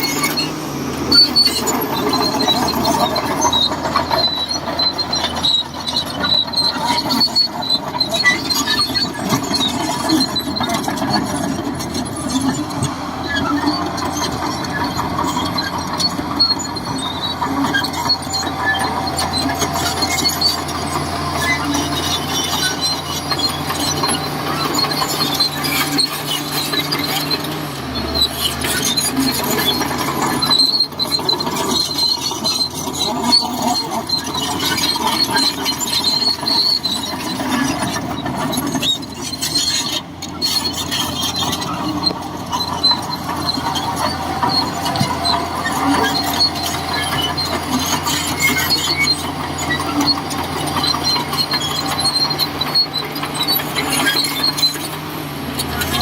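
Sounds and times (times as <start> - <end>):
bulldozer diesel engine under load: 0.0 - 56.0
high squeal of steel tracks: 0.0 - 56.0.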